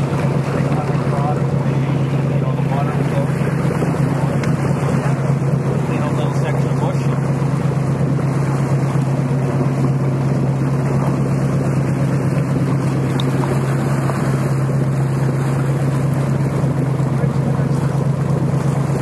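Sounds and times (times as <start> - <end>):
boat engine drone: 0.0 - 19.0
rushing water: 0.0 - 19.0
wind: 0.0 - 19.0.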